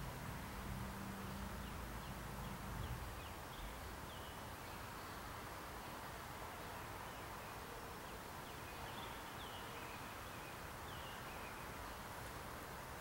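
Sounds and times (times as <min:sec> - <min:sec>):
outdoor hiss: 0:00.0 - 0:13.0
faint bird chirping: 0:00.5 - 0:12.2.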